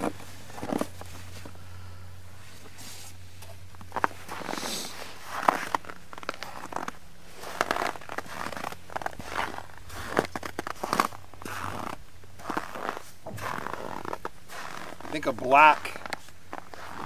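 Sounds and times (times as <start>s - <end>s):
footsteps crunching on snow: 0.0s - 1.6s, 2.3s - 17.0s
faint low hum: 0.0s - 17.0s.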